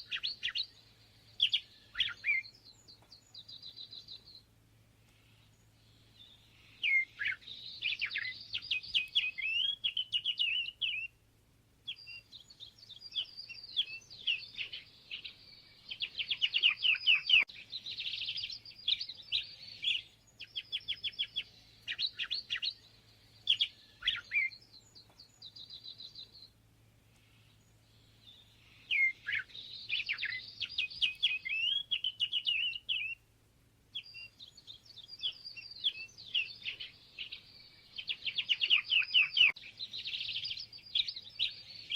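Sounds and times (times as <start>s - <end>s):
songbird warbling: 0.0s - 4.4s, 5.1s - 11.2s, 11.9s - 26.5s, 27.1s - 33.2s, 33.9s - 41.9s.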